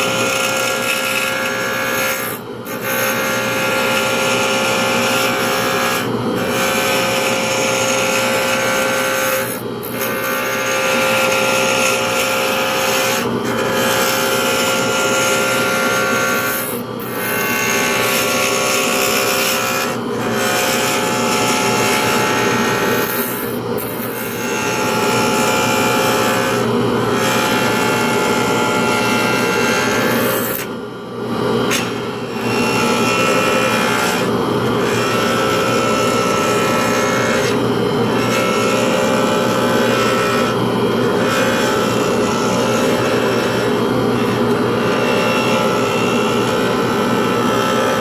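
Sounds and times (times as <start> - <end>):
lathe motor running: 0.0 - 48.0.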